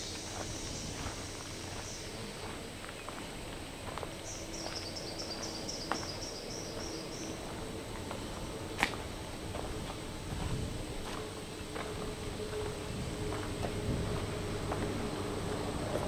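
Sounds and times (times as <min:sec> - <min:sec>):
footsteps on dirt trail: 0:00.0 - 0:16.0.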